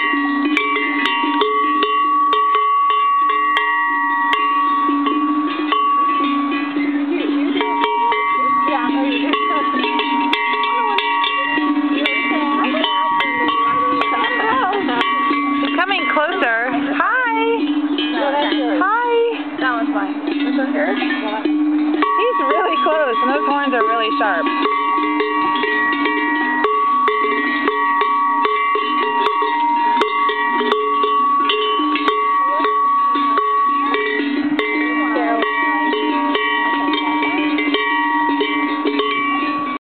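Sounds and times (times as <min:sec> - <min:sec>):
cowbells clanking: 0:00.0 - 0:39.8.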